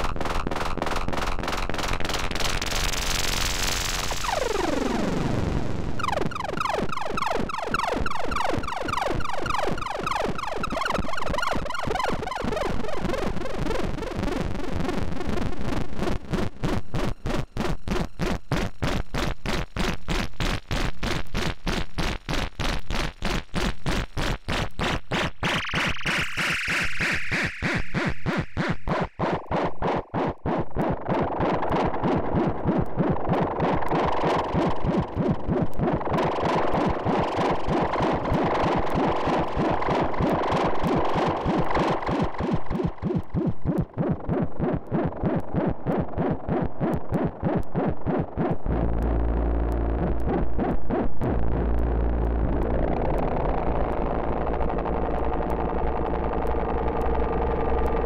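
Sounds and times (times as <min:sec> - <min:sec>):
buzzy synthesizer pulses: 0:00.0 - 0:58.0.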